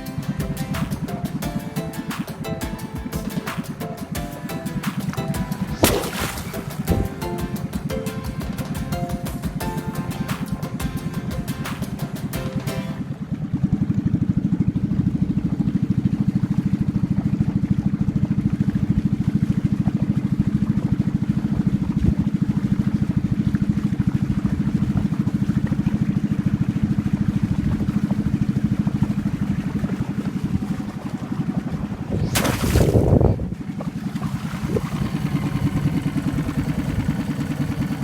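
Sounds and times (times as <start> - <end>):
small boat engine running: 0.0 - 38.0.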